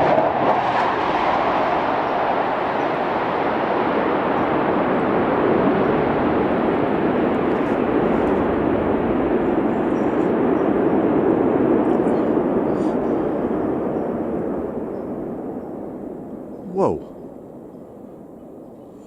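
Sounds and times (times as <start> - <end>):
jet roar overhead: 0.0 - 16.6.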